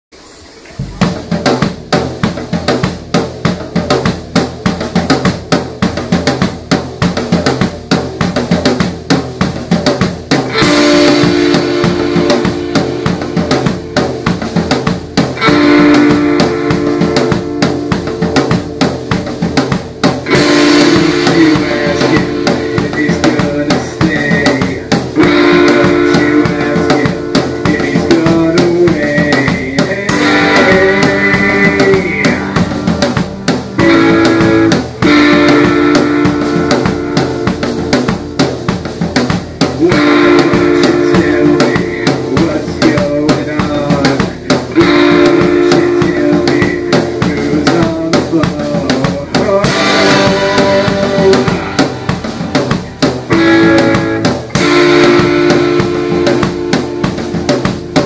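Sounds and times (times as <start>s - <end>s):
drum kit beat: 0.1s - 58.0s
electric guitar chords: 0.6s - 58.0s.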